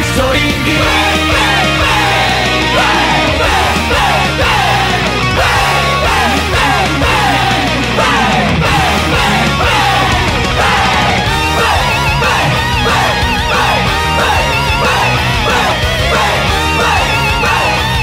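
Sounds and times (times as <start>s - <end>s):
hard rock band playing: 0.0s - 18.0s.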